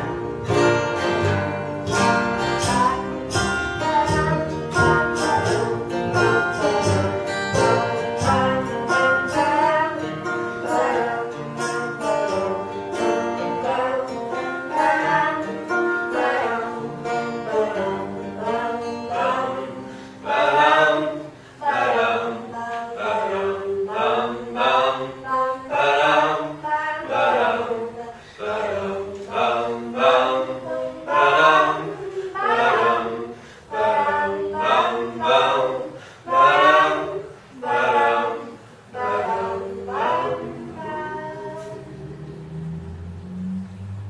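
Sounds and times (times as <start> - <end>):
voices singing in harmony: 0.0 - 44.0.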